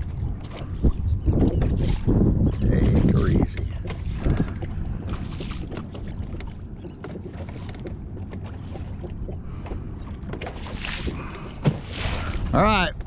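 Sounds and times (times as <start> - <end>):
water washing around boat: 0.0 - 13.0
wind buffeting microphone: 0.0 - 13.0.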